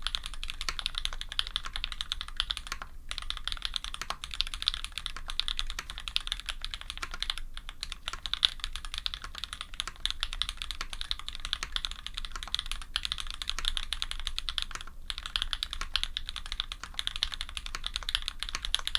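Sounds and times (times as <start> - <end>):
fast mechanical keyboard typing: 0.0 - 18.9.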